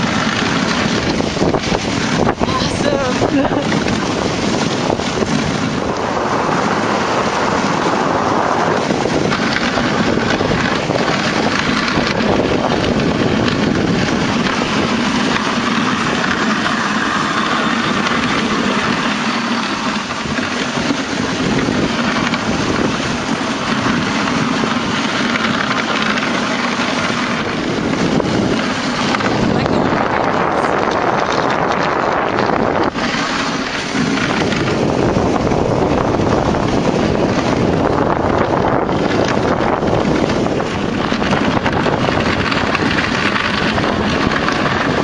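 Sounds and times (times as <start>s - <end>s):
sled runners hissing on snow: 0.0s - 45.0s
wind buffeting the microphone: 0.0s - 45.0s.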